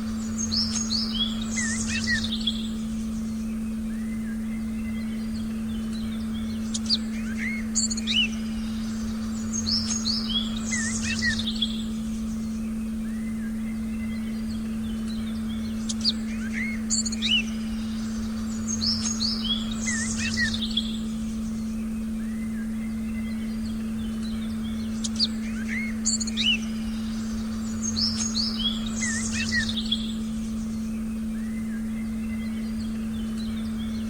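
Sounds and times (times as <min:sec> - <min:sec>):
forest birds chirping and whistling: 0:00.0 - 0:34.0
low meditation tone: 0:00.0 - 0:34.0.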